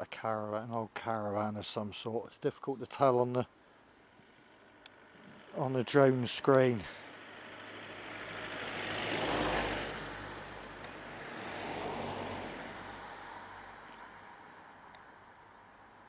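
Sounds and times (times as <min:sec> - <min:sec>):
vehicles passing: 0:03.0 - 0:16.0.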